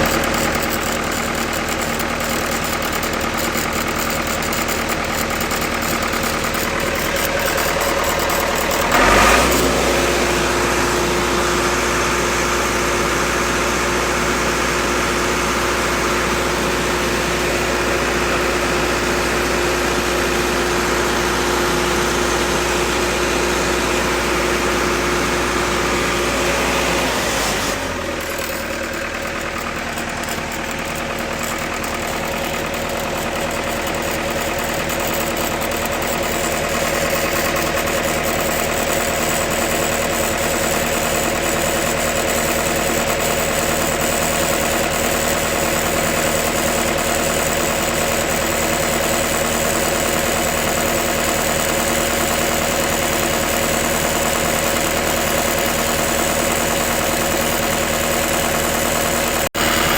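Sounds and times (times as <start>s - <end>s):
welder engine idling: 0.0s - 59.9s.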